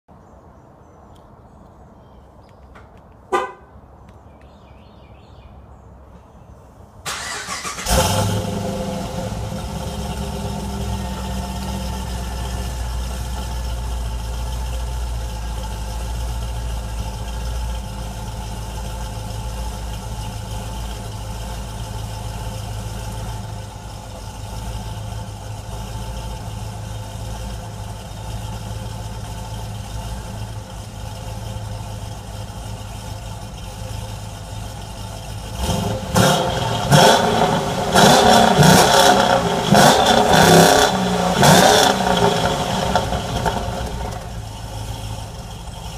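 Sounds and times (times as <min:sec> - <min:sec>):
car engine idling and revving: 0:07.1 - 0:45.9.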